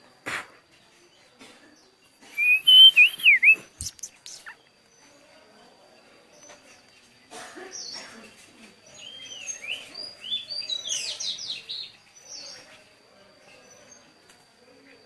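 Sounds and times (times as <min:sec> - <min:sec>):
small birds chirping: 0:00.6 - 0:15.0.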